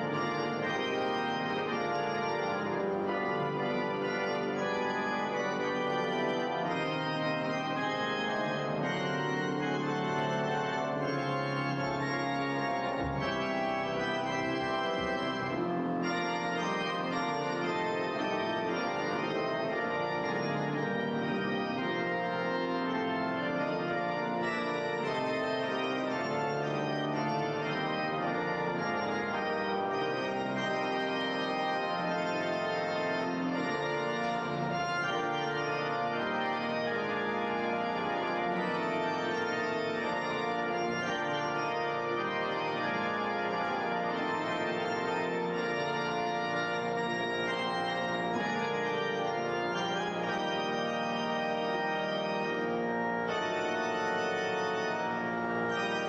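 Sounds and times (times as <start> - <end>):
organ playing held chords: 0.0 - 56.0.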